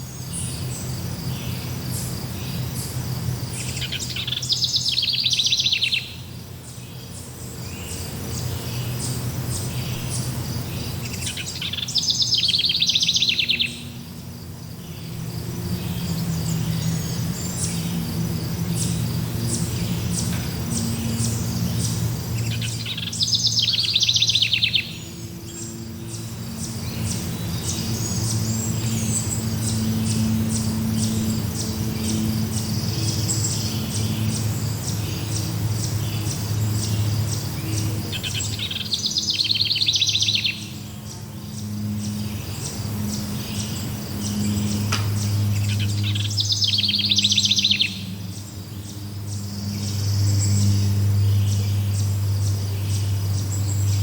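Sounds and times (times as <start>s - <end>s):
crickets chirring: 0.0s - 54.0s
forest birds calling: 0.0s - 54.0s
bird fast trills: 1.5s - 54.0s.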